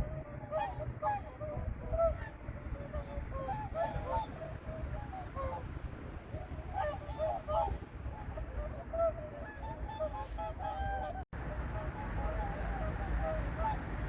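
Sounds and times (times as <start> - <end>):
low background rumble: 0.0 - 14.0
swans honking: 0.0 - 14.0.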